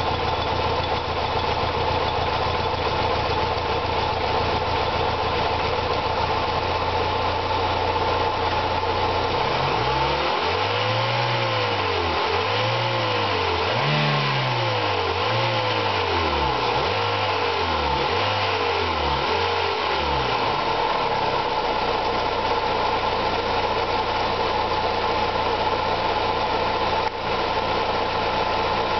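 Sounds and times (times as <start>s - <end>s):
car engine idling and revving: 0.0s - 28.9s.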